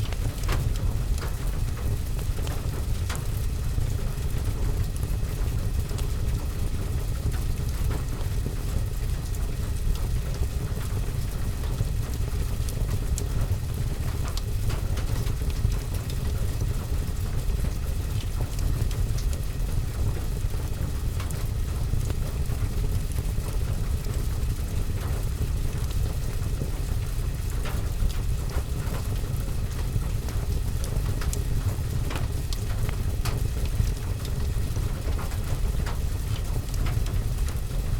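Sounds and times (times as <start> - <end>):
rain on a window and roof: 0.0 - 37.9
wood fire crackling: 0.0 - 37.9.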